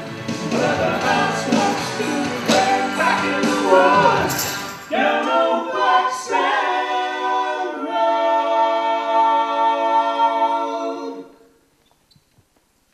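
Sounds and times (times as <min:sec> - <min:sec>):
men singing in harmony: 0:00.3 - 0:11.4.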